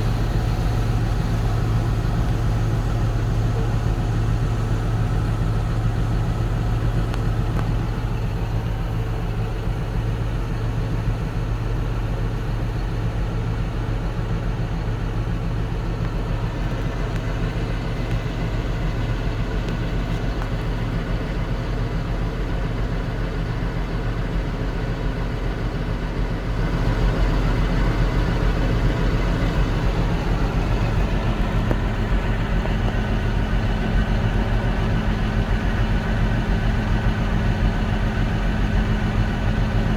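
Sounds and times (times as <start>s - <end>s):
farm machinery engine humming: 0.0s - 39.9s.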